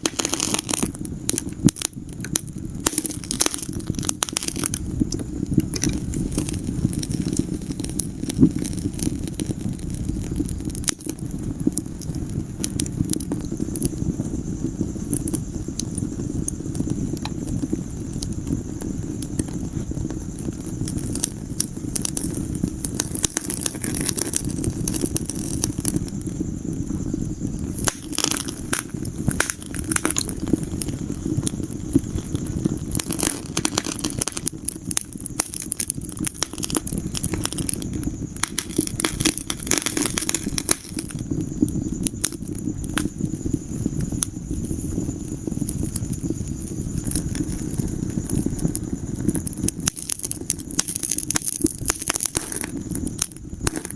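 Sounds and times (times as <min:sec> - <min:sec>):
low fire rumble: 0:00.0 - 0:53.9
wood fire crackling and popping: 0:00.0 - 0:53.9.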